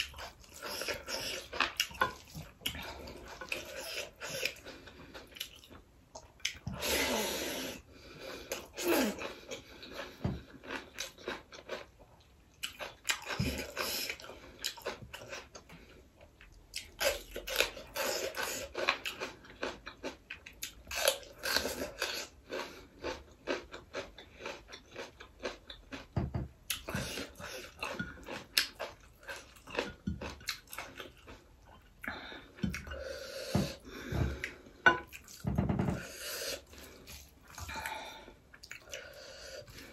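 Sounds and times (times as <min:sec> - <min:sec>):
person chewing and lip-smacking: 0:00.0 - 0:06.9, 0:08.5 - 0:39.9.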